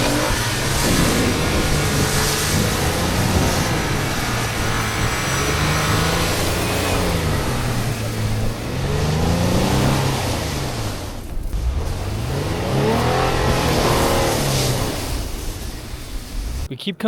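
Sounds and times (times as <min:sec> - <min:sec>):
off-road vehicle engine revving: 0:00.0 - 0:15.9
steady rushing noise: 0:00.0 - 0:16.7.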